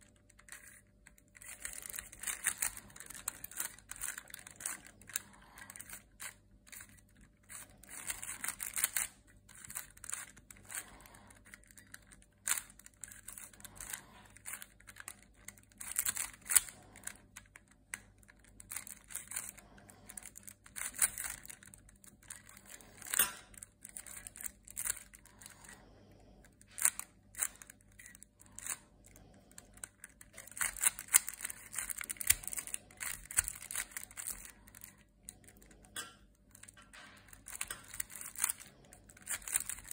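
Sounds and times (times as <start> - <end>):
plastic puzzle balls clicking: 0.0 - 25.8, 26.6 - 39.9.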